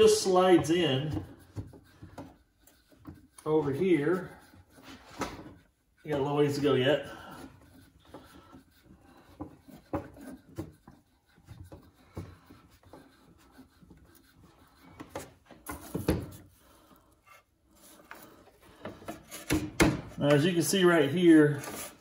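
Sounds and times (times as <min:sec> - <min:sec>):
metal rubbing and scraping: 0:00.0 - 0:22.0.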